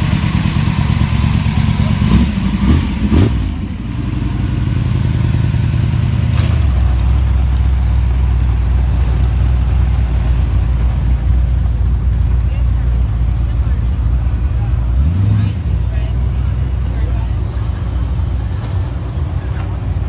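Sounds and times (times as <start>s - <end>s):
engine deep rumble: 0.0s - 20.0s.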